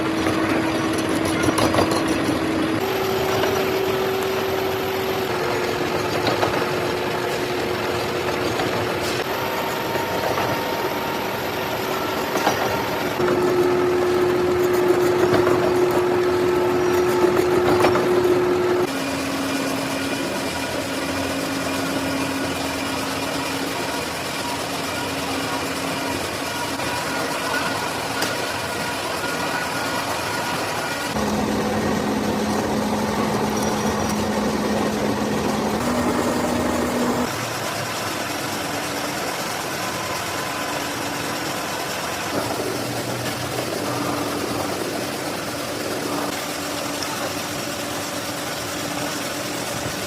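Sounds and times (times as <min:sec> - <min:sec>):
machine tool motor humming: 0:00.0 - 0:50.0.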